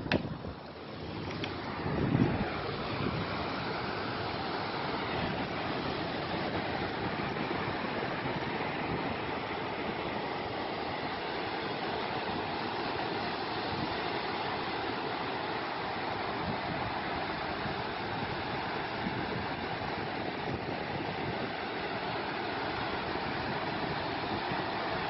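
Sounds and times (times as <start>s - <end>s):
ocean surf rushing: 0.0s - 25.0s.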